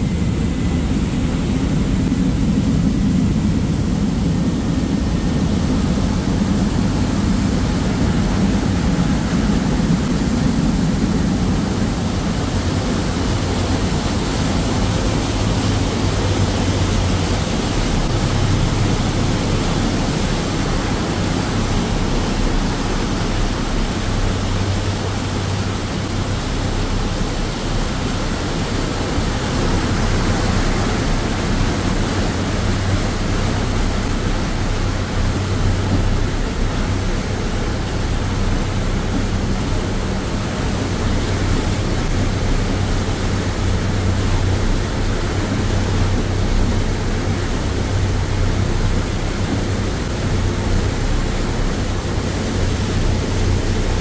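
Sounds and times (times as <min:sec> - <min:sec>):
churning wake water: 0:00.0 - 0:54.0
ferry engine droning: 0:00.0 - 0:54.0.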